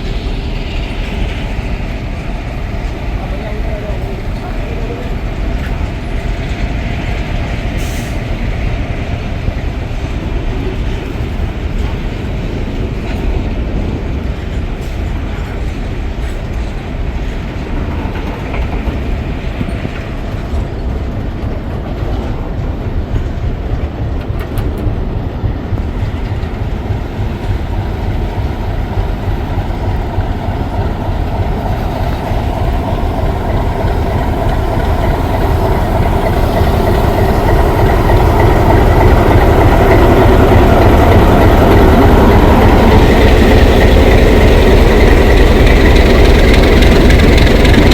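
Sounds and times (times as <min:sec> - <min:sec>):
train rumbling on track: 0:00.0 - 0:47.9.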